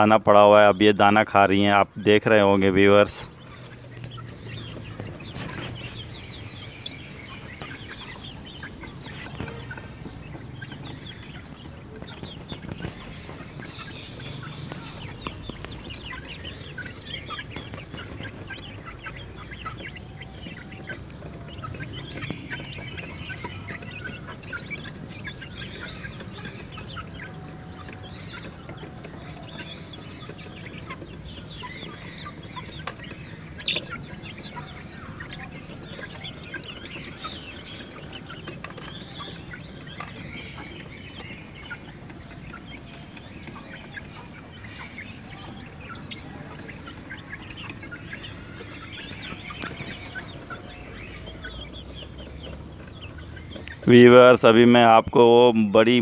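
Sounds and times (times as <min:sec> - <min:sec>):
hens clucking and chirping: 0:00.0 - 0:56.0.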